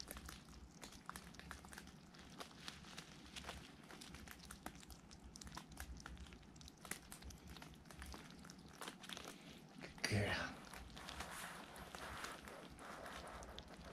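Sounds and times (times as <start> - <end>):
hedgehog chewing food: 0.0 - 13.9.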